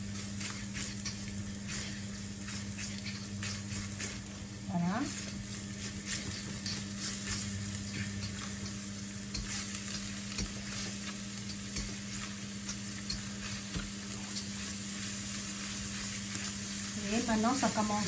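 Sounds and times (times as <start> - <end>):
paste sizzling in oil: 0.0 - 18.0
steady low hum: 0.0 - 18.0
spatula scraping pan: 0.4 - 4.4, 5.1 - 16.5.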